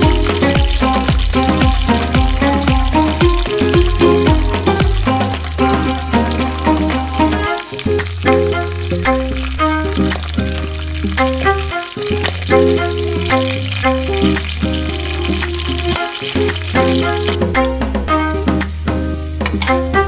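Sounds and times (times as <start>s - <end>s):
spatula stirring: 0.0s - 17.5s
garlic and chillies sizzling in oil: 0.0s - 20.0s
instrumental music with bass line: 0.0s - 20.0s.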